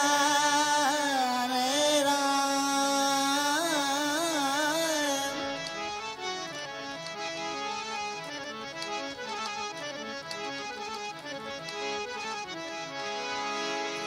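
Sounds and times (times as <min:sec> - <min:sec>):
harmonium melody: 0:00.0 - 0:14.0.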